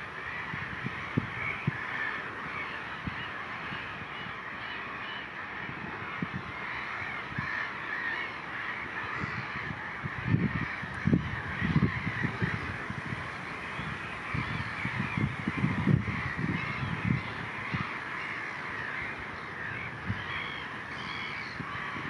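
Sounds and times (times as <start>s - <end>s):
distant chorus of birds calling: 0.0s - 22.0s.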